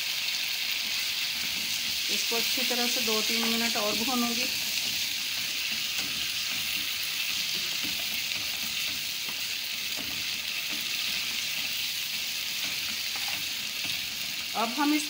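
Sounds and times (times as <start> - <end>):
food sizzling in oil: 0.0 - 15.0
spoon scraping wok: 0.8 - 14.5.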